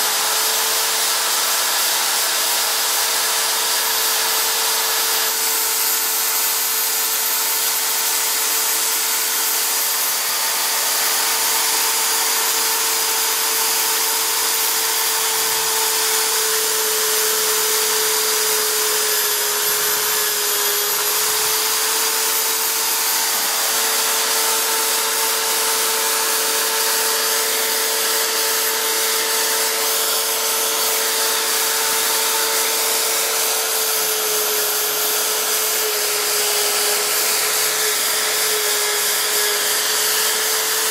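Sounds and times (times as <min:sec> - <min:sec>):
electric drill drilling into wood: 0:00.0 - 0:40.9.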